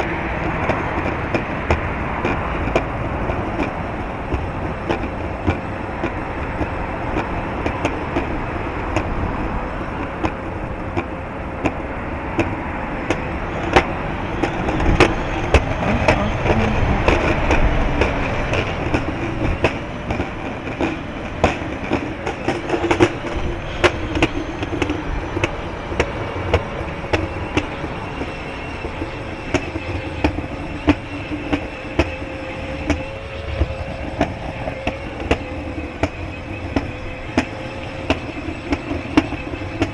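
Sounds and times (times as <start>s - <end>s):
sharp clicks and knocks: 0.0s - 39.9s
steady rolling noise: 0.0s - 39.9s
wind buffeting microphone: 0.0s - 39.9s.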